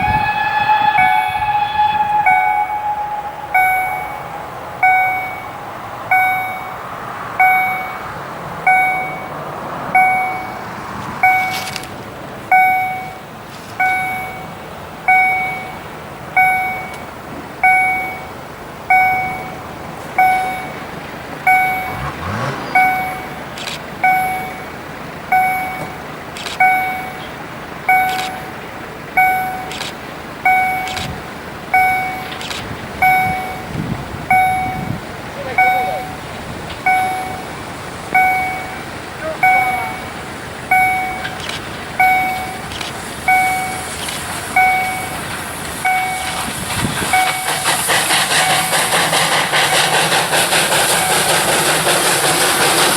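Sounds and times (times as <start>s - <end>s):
level-crossing warning bell ringing: 0.0s - 29.8s, 30.4s - 32.4s, 33.0s - 52.9s
road vehicle passing: 0.0s - 52.9s.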